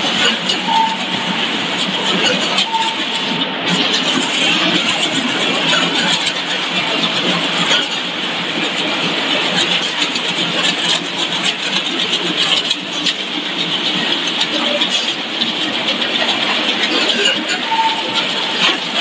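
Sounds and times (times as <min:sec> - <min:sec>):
conveyor machinery noise: 0:00.0 - 0:19.0.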